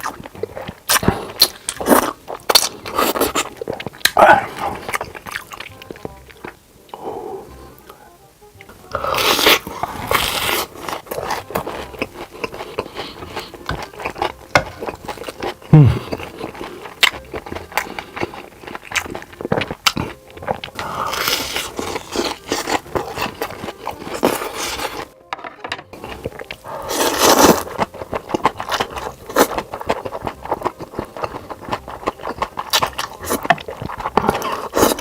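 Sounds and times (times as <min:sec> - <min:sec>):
crunching and chewing food: 0:00.0 - 0:08.0, 0:08.6 - 0:35.0.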